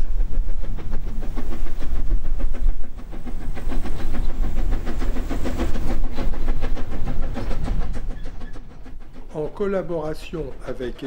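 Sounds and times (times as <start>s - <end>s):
steam locomotive chuffing: 0.0s - 11.0s.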